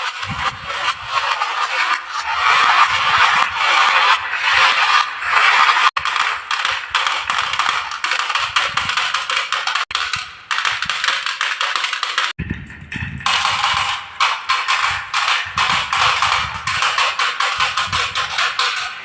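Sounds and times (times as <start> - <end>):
marbles clattering down wooden tracks: 0.0 - 12.4, 13.2 - 19.0.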